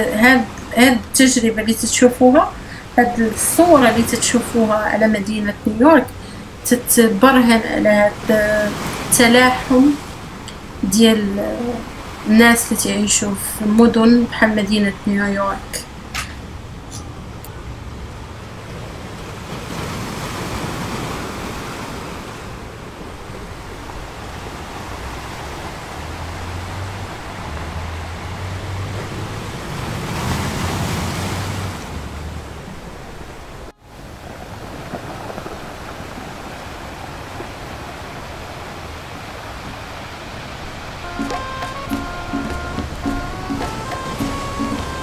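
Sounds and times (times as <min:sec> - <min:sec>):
small waves washing onto beach: 0:00.0 - 0:17.0, 0:18.0 - 0:45.0
wind rumbling on microphone: 0:00.0 - 0:41.1.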